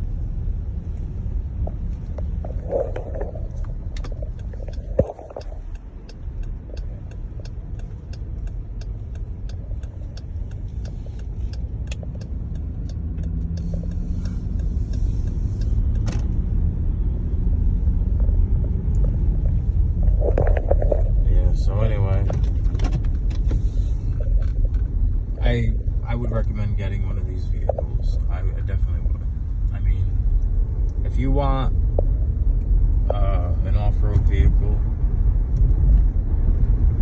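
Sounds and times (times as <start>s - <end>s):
car cabin road rumble: 0.0s - 37.0s
light regular ticking: 0.8s - 34.6s.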